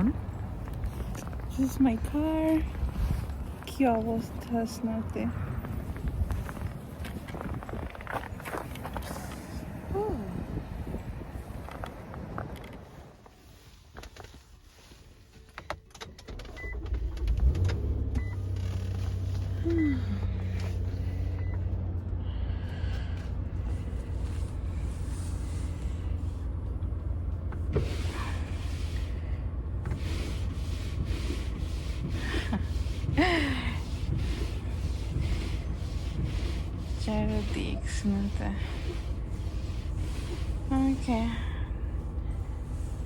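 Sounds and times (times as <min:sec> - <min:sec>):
car engine starting and idling: 0:00.0 - 0:43.0.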